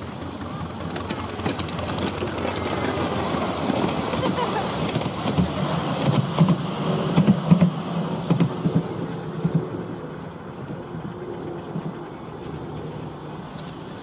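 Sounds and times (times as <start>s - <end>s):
miniature train rumbling: 0.0s - 14.0s
wheels clicking on rails: 0.0s - 14.0s.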